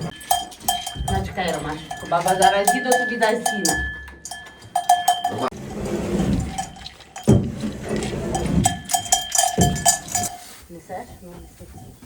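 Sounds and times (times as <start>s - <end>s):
cowbell clanking: 0.0s - 12.0s.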